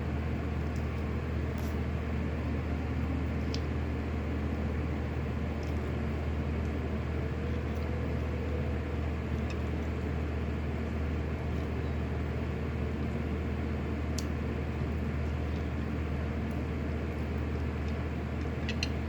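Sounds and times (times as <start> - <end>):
electric fan humming: 0.0 - 19.0.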